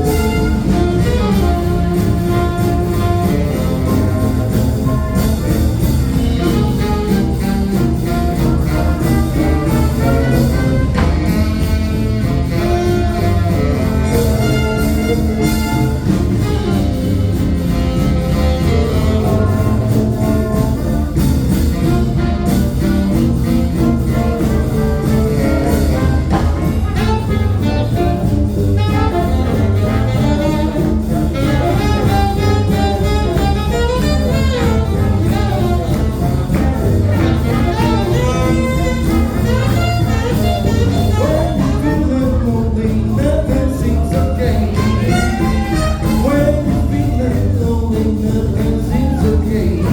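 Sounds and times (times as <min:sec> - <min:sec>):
live jazz band playing: 0:00.0 - 0:49.9.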